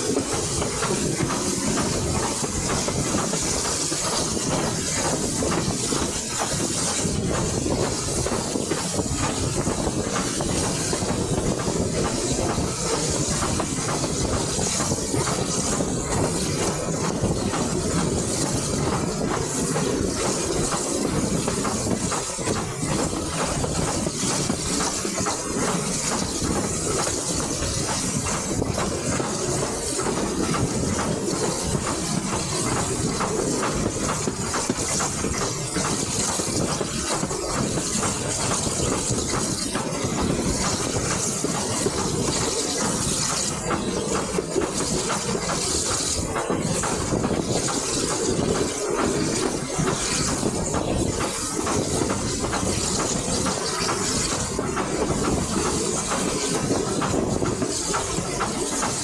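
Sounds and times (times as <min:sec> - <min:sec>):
rushing air hiss: 0:00.0 - 0:59.0
train wheels rumbling on rails: 0:00.0 - 0:59.0.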